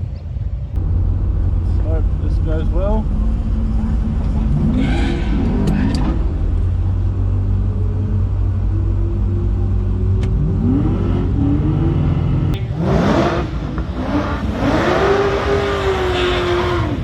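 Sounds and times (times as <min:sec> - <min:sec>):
car engine accelerating hard: 0:00.8 - 0:17.0.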